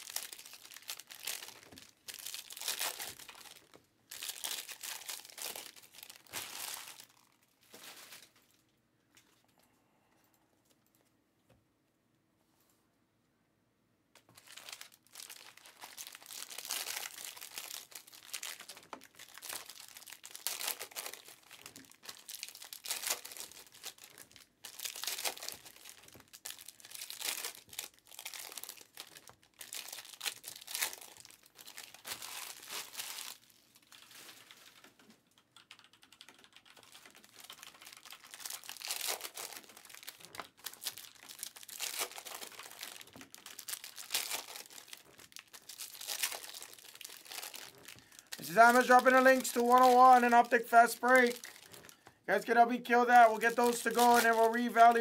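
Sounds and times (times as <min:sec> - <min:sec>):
foil wrappers crinkling and tearing: 0:00.0 - 0:08.5, 0:14.2 - 0:35.0, 0:36.6 - 0:55.0.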